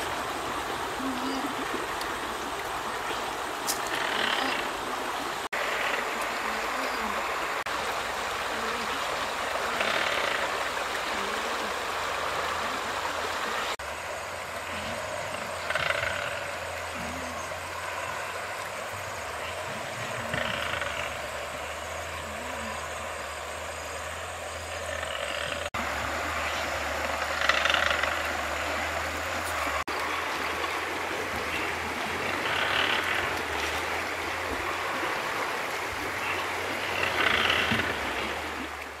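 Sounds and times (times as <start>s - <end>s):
running water rushing: 0.0s - 39.0s.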